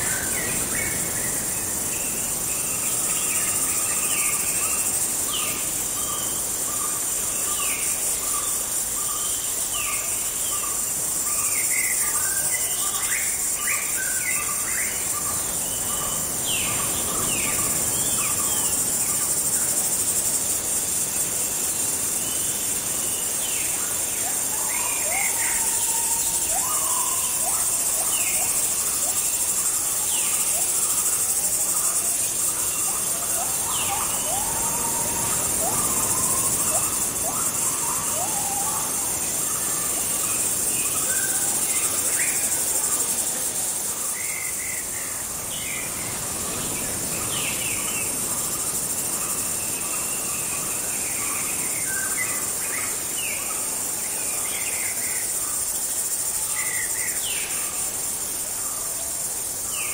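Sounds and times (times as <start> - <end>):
high-pitched insect drone: 0.0 - 59.9.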